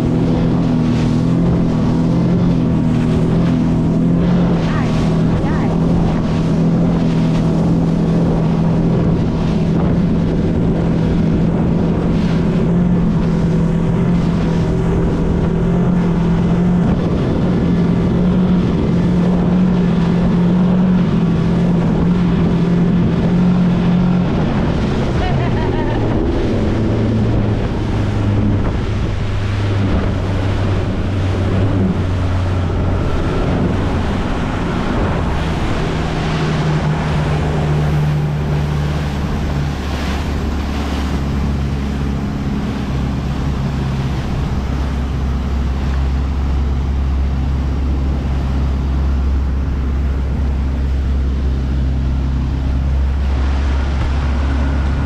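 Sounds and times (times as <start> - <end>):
boat wake rushing: 0.0 - 55.0
outboard motor droning: 0.0 - 55.0
wind buffeting microphone: 0.0 - 55.0.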